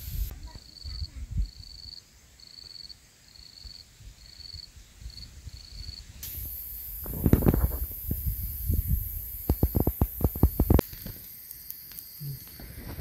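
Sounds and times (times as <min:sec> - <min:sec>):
insect buzzy trills: 0:00.0 - 0:13.0
steady high hiss: 0:00.0 - 0:13.0.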